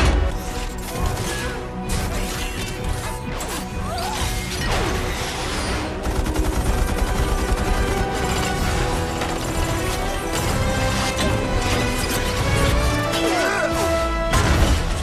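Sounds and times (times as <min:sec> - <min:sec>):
film score music: 0:00.0 - 0:15.0.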